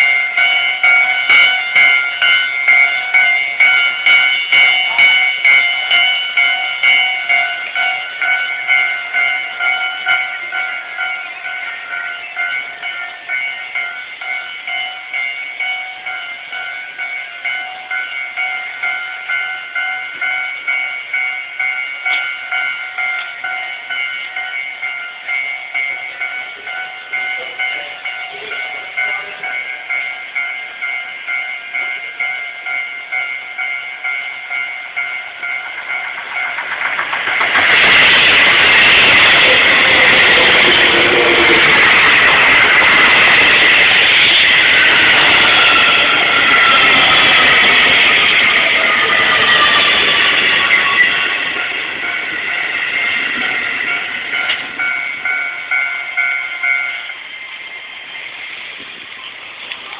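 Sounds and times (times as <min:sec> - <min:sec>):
level crossing alarm clanging: 0:00.0 - 0:57.2.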